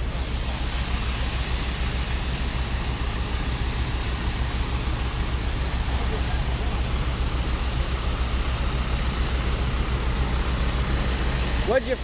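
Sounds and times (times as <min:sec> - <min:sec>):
constant rushing hiss: 0:00.0 - 0:12.0
pulsing engine drone: 0:00.0 - 0:12.0.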